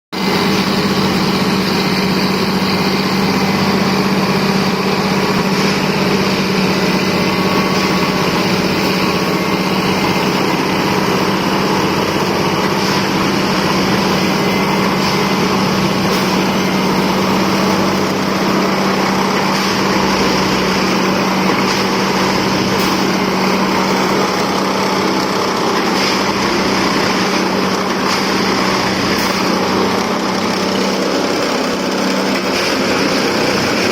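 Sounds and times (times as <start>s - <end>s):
machine engine and hydraulics humming: 0.2s - 33.9s.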